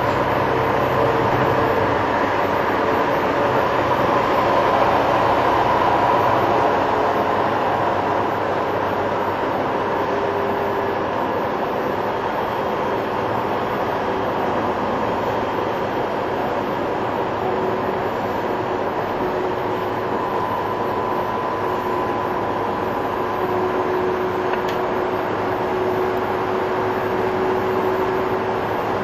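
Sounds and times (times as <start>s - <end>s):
truck engine and road noise: 0.0s - 29.0s.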